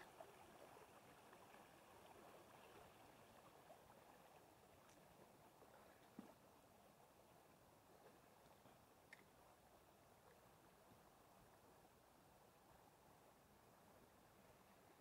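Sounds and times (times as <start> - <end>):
small creek flowing: 0.0 - 15.0.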